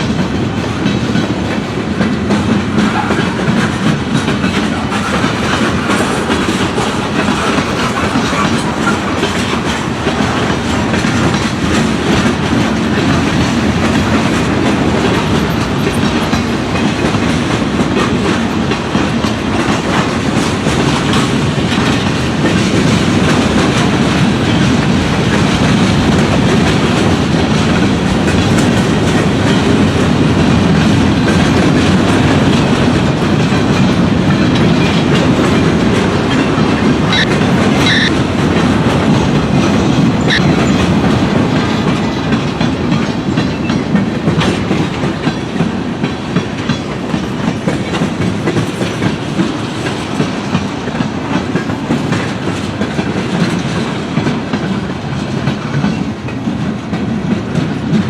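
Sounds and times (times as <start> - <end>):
train cars clacking over rail joints: 0.0 - 58.0.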